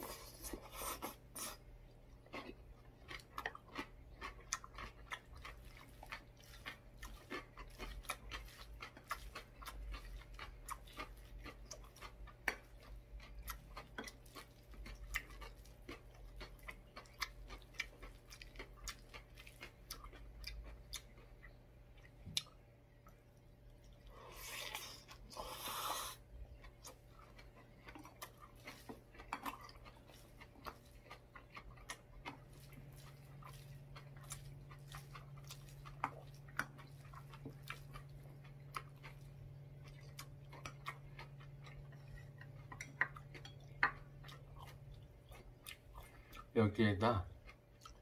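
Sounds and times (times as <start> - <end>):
chewing with wet mouth clicks: 0.0 - 46.6, 47.3 - 48.0
faint steady hum: 0.0 - 48.0.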